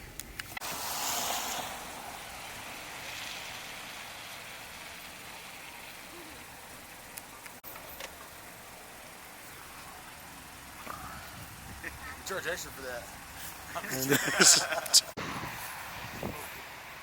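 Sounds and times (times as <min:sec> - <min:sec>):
tyres hissing on slushy road: 0:00.6 - 0:17.0.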